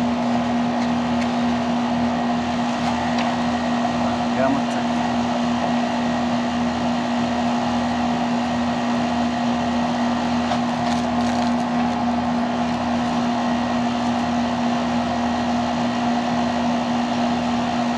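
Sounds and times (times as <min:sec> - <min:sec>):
air conditioning unit humming: 0:00.0 - 0:17.9.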